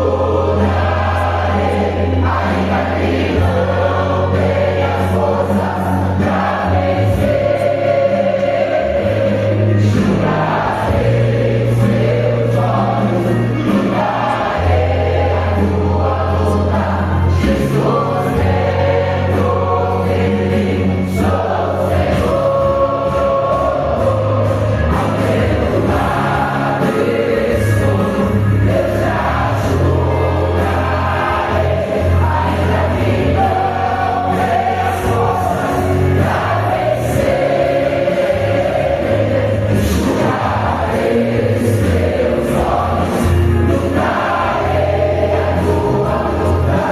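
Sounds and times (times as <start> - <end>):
choir singing gospel: 0.0 - 46.9
instrumental accompaniment: 0.0 - 46.9.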